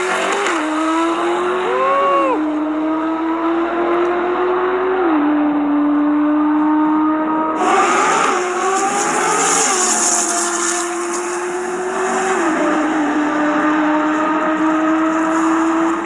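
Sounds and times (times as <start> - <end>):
sports car engine at high rev: 0.0 - 16.0.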